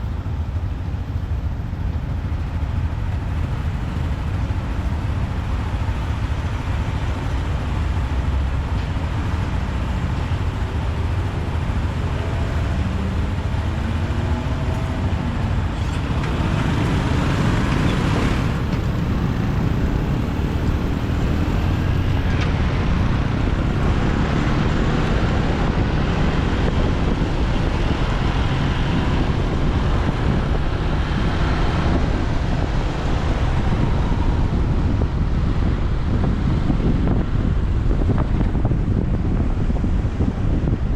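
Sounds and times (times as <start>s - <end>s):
motorcycle engine and road noise: 0.0s - 40.9s.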